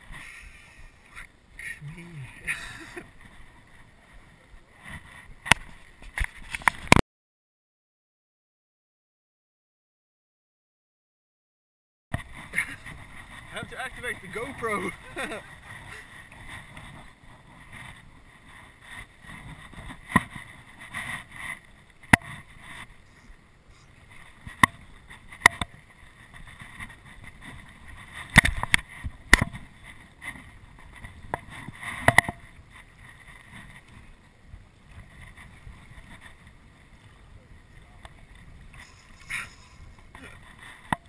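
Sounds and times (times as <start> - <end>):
hiss of wind and water: 0.0 - 6.8, 12.2 - 41.0.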